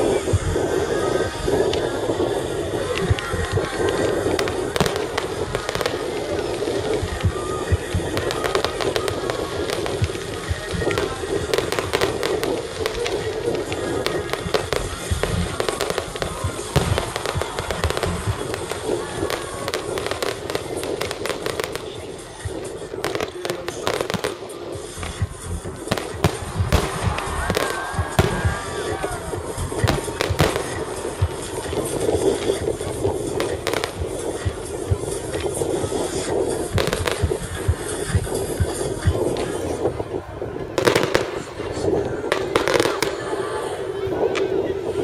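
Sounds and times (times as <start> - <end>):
fireworks bursting: 0.0 - 45.0.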